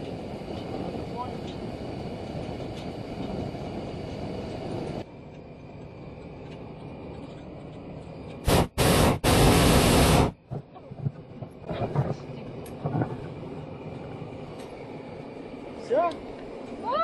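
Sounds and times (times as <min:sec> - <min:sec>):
propane burner blasts: 0:00.0 - 0:17.0.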